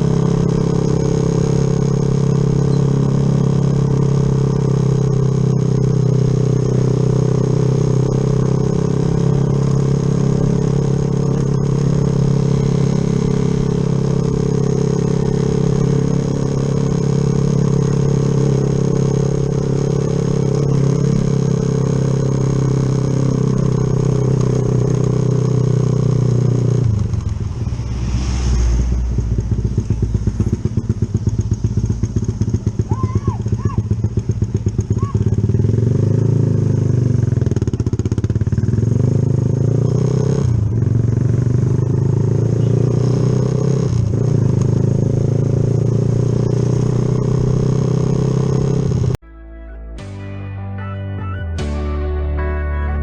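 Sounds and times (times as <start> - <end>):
motorcycle engine running: 0.0 - 49.2.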